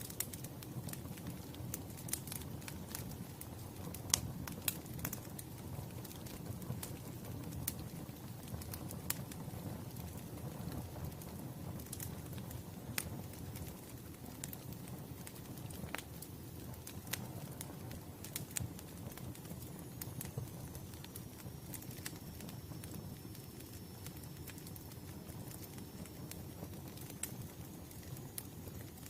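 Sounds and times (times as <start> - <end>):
low rumble of burning: 0.0 - 29.0
wood fire crackling and popping: 0.0 - 29.0.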